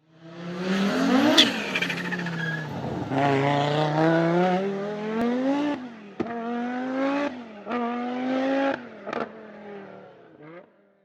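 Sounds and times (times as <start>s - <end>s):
car engine accelerating through gears: 0.2s - 10.7s.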